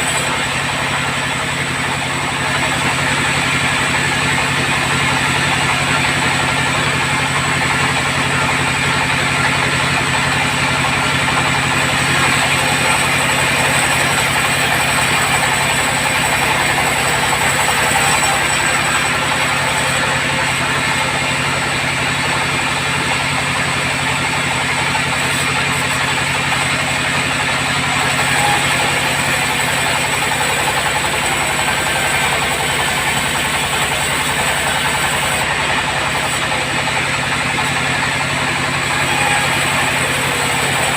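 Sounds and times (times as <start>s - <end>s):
bandsaw running: 0.0s - 40.9s.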